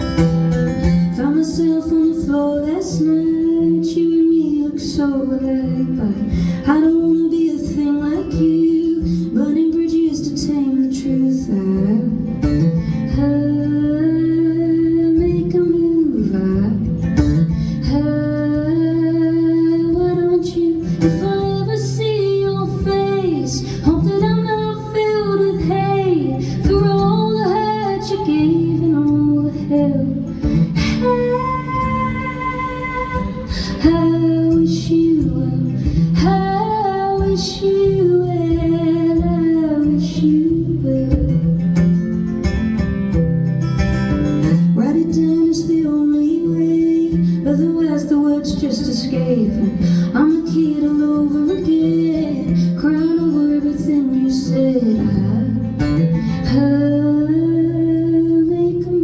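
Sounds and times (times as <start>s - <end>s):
acoustic guitar: 0.0s - 59.0s
woman singing: 0.0s - 59.0s.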